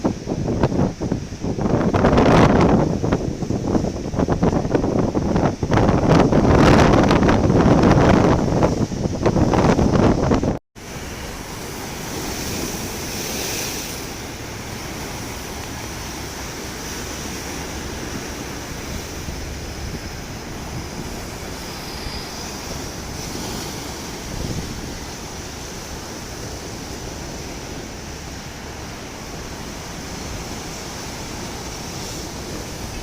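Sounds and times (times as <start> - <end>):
sea surf washing ashore: 0.0 - 33.0
wind on microphone: 0.0 - 33.0.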